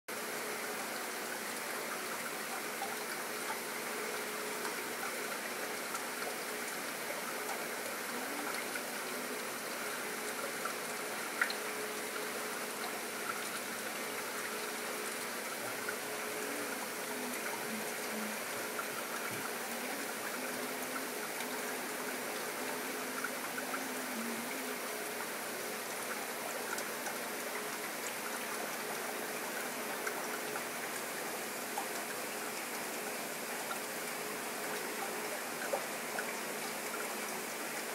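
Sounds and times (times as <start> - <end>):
aquarium water rushing and trickling: 0.1 - 37.9
faint steady hum: 0.1 - 37.9.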